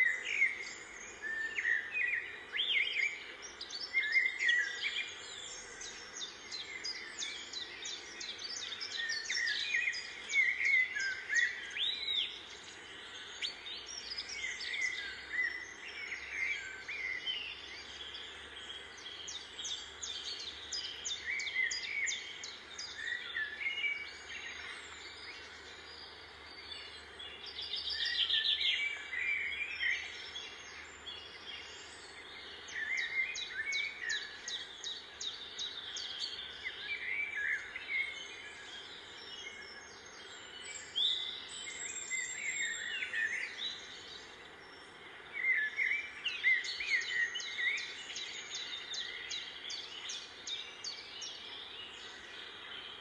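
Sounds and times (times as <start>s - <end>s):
small birds chirping and trilling: 0.0s - 53.0s
steady background hiss: 0.0s - 53.0s.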